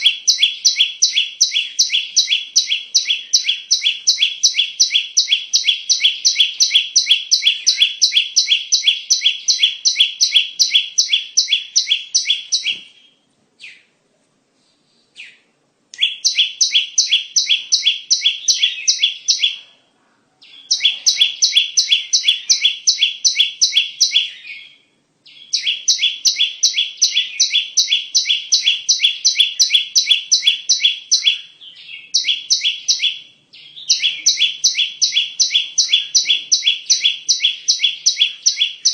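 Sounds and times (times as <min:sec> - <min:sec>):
bird sharp repeated chirps: 0:00.0 - 0:13.9, 0:15.2 - 0:19.8, 0:20.4 - 0:38.9.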